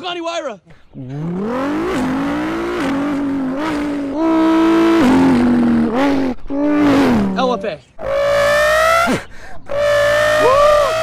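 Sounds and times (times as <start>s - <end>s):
man imitating car engine with voice: 0.8s - 11.0s.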